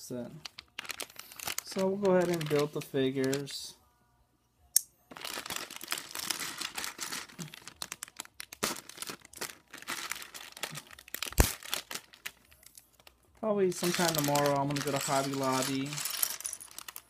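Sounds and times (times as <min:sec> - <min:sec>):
plastic bag crinkling and tearing: 0:00.4 - 0:03.5, 0:05.1 - 0:17.0.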